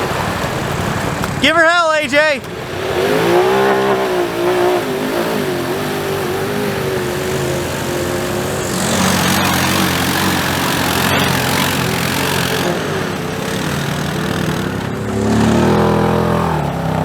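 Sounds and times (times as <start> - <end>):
loud rushing noise: 0.0 - 17.0
utility vehicle engine revving: 0.0 - 17.0.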